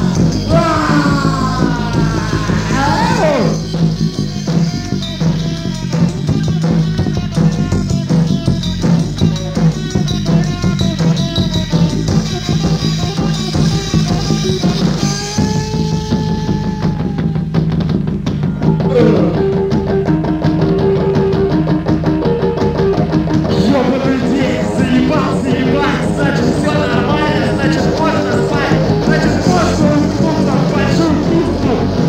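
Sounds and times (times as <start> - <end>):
instrumental rock music: 0.0 - 32.0.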